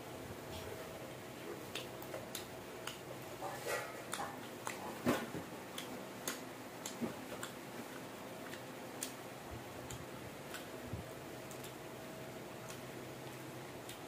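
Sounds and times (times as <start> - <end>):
person chewing food: 1.1 - 14.0.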